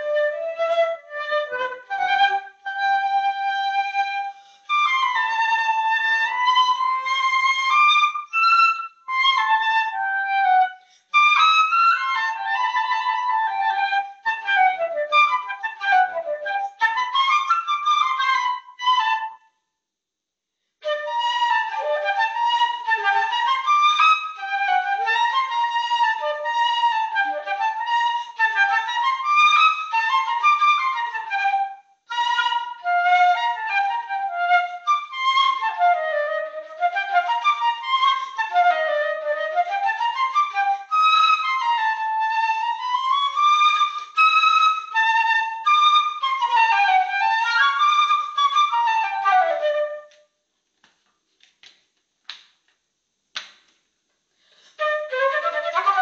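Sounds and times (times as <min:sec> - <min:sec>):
flute melody: 0:00.0 - 0:19.6, 0:20.8 - 0:50.3, 0:54.6 - 0:56.0.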